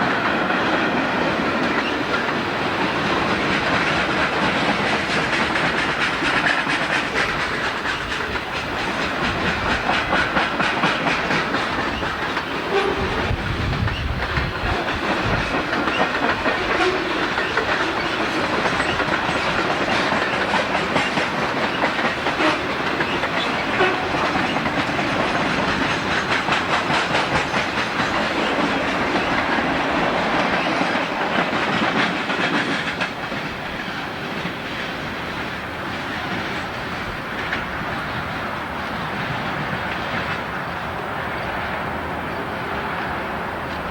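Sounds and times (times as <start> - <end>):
train wheels clattering over rail joints: 0.0 - 41.7
deep train rumble: 0.0 - 43.9.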